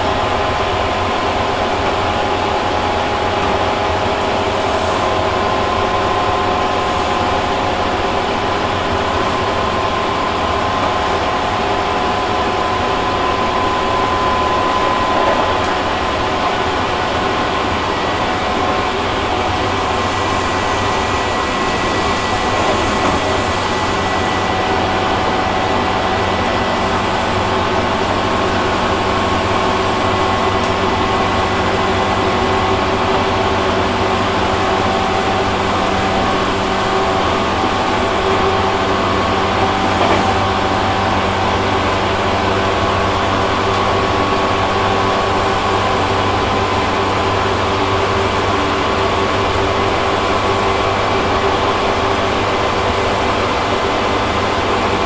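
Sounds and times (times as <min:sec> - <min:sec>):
electric train rumble: 0:00.0 - 0:55.0
traction motor whine: 0:00.1 - 0:55.0.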